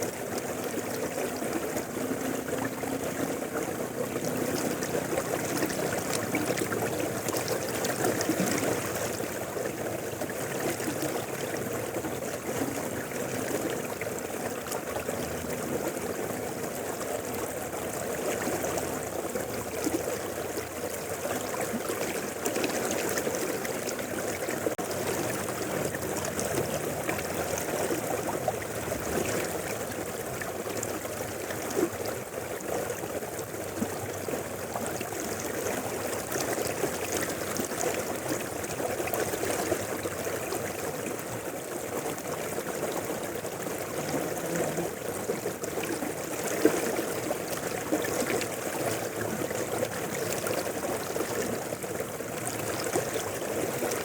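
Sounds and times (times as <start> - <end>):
river water rushing over stones: 0.0 - 54.0.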